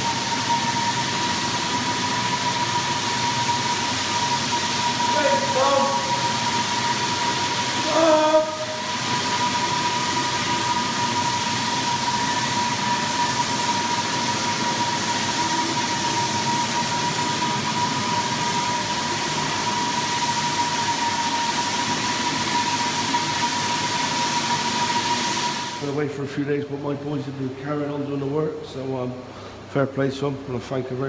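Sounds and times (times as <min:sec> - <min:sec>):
floor sanding machine whining: 0:00.0 - 0:29.6.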